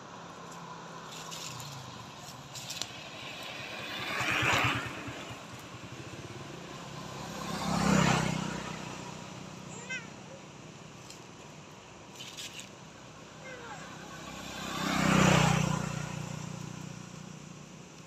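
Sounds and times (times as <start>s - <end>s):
motor vehicles passing: 0.0s - 18.0s.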